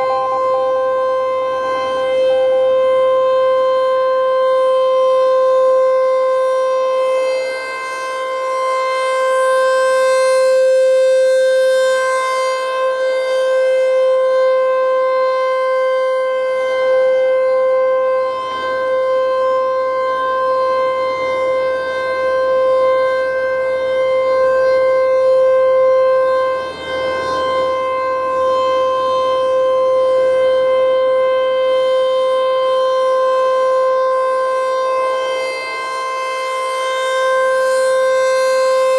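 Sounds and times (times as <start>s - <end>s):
rotating warning siren: 0.0s - 38.9s.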